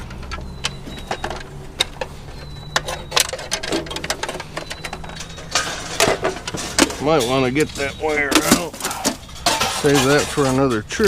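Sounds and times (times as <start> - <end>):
scrap metal clanking: 0.0 - 11.0.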